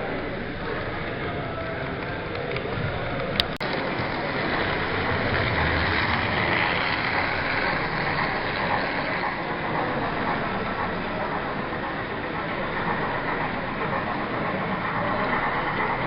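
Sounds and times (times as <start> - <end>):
exhibition hall background noise: 0.0 - 16.0
model trains running on track: 0.0 - 16.0.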